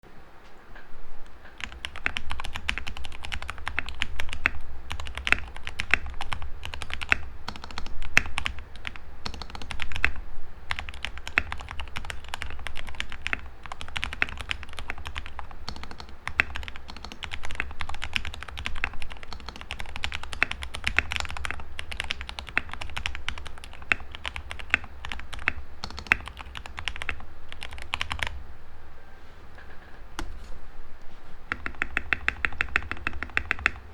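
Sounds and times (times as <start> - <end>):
mechanical keyboard typing: 1.4 - 28.4, 31.5 - 33.9.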